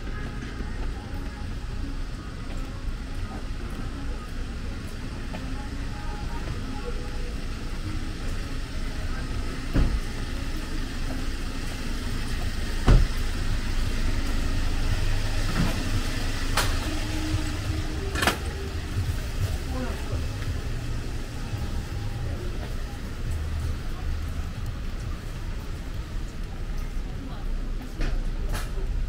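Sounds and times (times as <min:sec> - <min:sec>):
motor vehicle running: 0:00.0 - 0:29.0.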